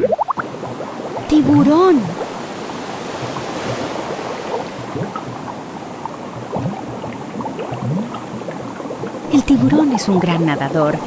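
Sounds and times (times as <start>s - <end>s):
sea water washing: 0.0s - 11.0s
water gurgles: 0.0s - 11.0s.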